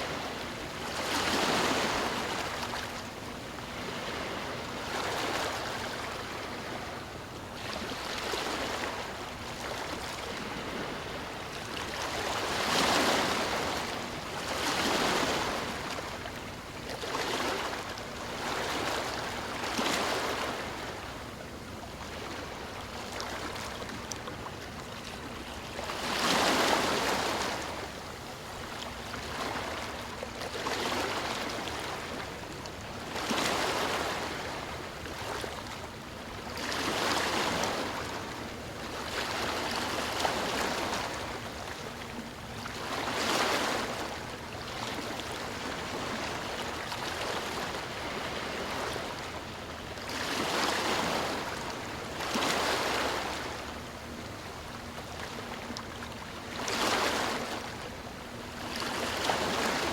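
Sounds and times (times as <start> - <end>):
waves washing onto shore: 0.0 - 59.9.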